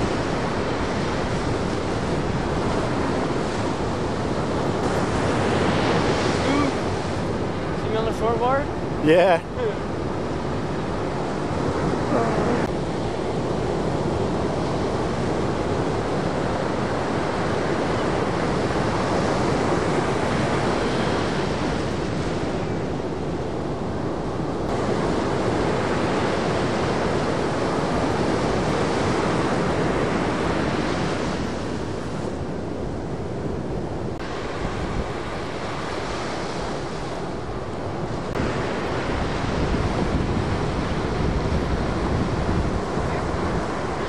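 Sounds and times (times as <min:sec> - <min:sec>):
ocean surf breaking: 0:00.0 - 0:44.0
wind on microphone: 0:00.0 - 0:44.0.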